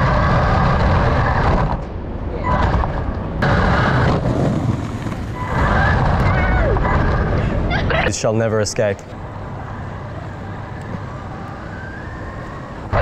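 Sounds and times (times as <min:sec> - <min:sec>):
faint motor whine: 0:00.0 - 0:13.0
rumble of wheels and wind: 0:00.0 - 0:13.0.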